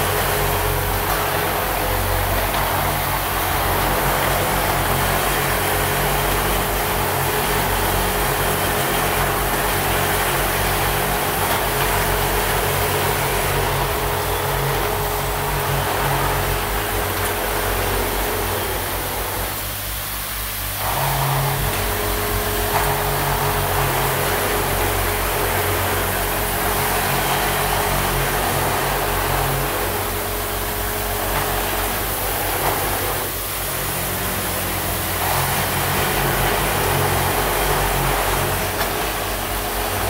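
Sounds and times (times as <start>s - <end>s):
machine feeders humming: 0.0s - 40.0s.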